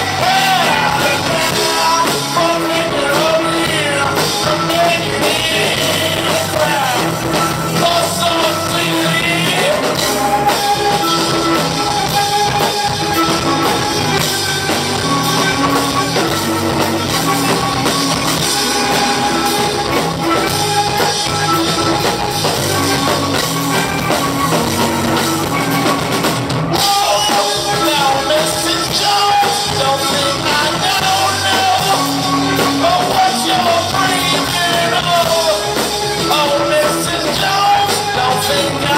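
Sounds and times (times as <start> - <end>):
melody in long held notes: 0.0 - 36.7
rock band playing: 0.0 - 38.9.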